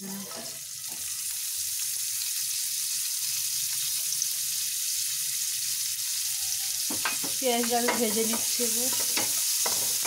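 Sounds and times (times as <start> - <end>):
onions sizzling in frying pan: 0.0 - 10.0.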